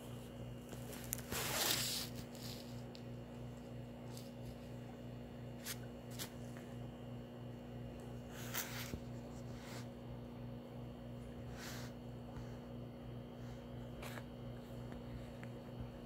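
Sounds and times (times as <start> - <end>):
faint pulsing mechanical hum: 0.0 - 16.0.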